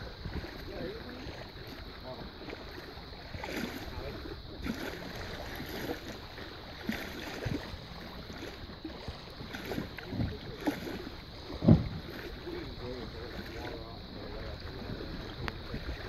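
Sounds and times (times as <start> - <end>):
small waves lapping: 0.0 - 16.0
wind buffeting microphone: 0.0 - 16.0.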